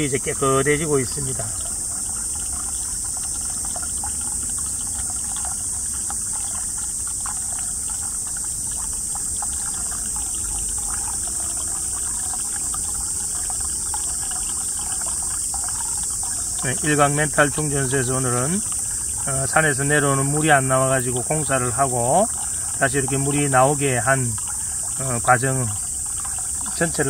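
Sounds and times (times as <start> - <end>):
high-pitched hiss: 0.0 - 27.0
water trickling into rocky pool: 0.0 - 27.0.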